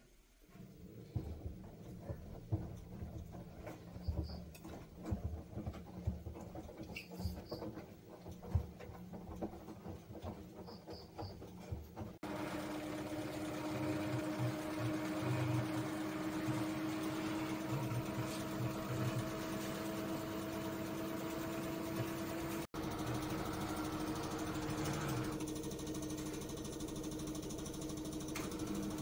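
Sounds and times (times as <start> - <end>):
washing machine spinning: 0.4 - 29.0.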